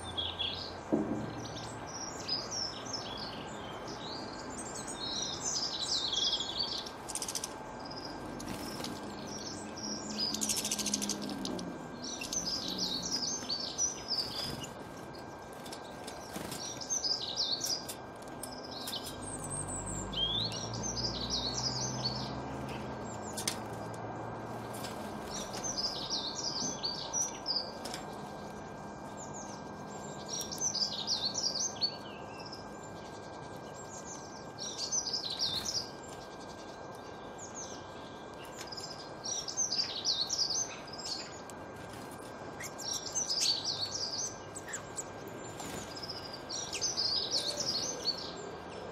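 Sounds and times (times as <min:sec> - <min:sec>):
songbirds twittering: 0:00.0 - 0:48.9.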